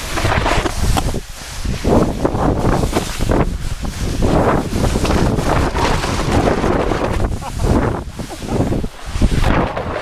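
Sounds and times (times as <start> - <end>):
snowboard scraping snow: 0.0 - 10.0
wind buffeting microphone: 0.0 - 10.0.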